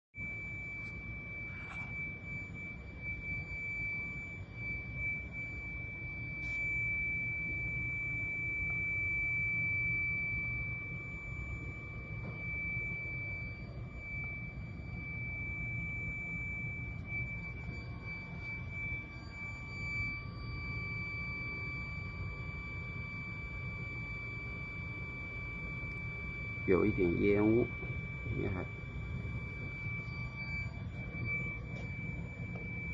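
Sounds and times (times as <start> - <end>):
high-pitched electrical whine: 0.2 - 32.9.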